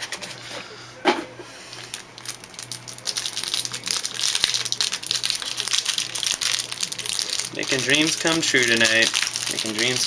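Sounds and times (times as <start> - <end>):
plastic wrapping crinkling: 1.8 - 10.0.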